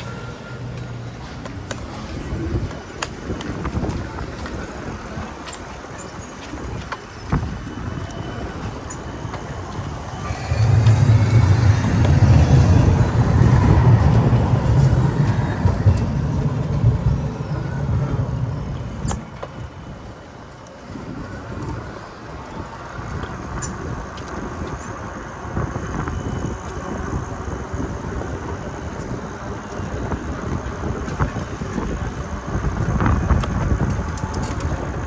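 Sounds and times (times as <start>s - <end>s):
vehicle engine rumble: 0.0s - 35.0s.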